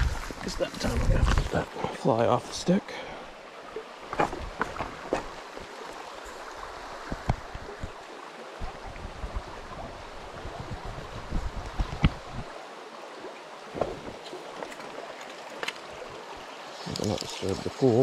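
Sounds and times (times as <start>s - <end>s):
stream rushing over stones: 0.0s - 18.0s.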